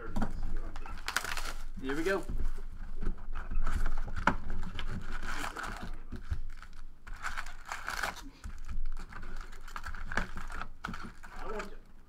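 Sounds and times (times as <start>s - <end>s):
foil packs crinkling: 0.4s - 11.9s.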